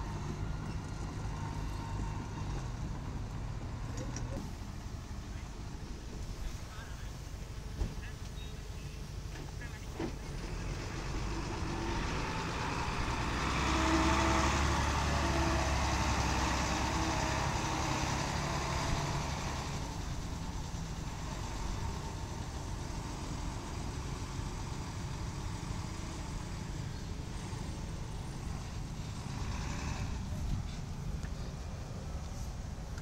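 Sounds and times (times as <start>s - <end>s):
heavy machinery engine running: 0.0s - 33.0s.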